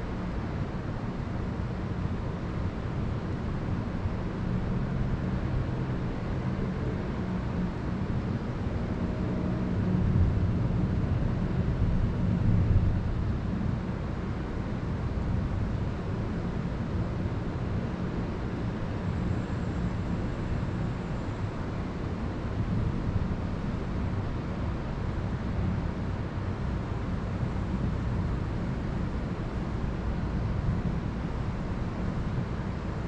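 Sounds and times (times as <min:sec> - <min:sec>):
wind: 0:00.0 - 0:33.0.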